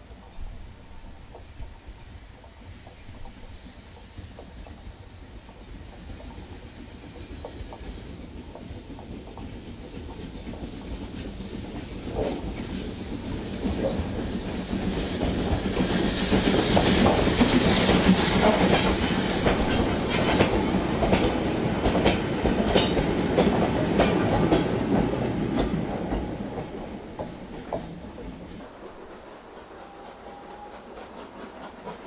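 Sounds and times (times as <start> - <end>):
steam train running past: 0.0 - 32.0.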